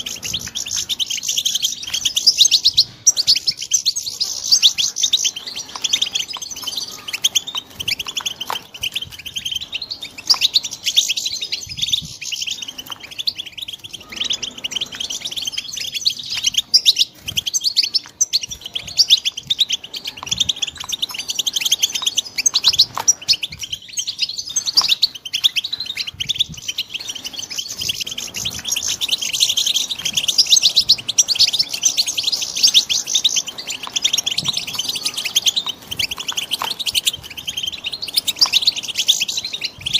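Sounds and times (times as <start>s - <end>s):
goldfinches twittering and singing: 0.0s - 39.9s.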